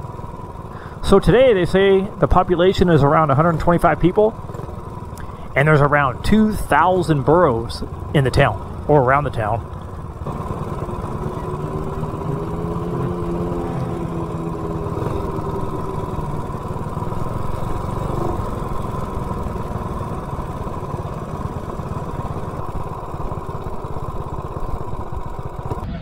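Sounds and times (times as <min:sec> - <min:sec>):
higher smoother engine tone: 0:00.0 - 0:26.0
small engine running: 0:00.0 - 0:26.0.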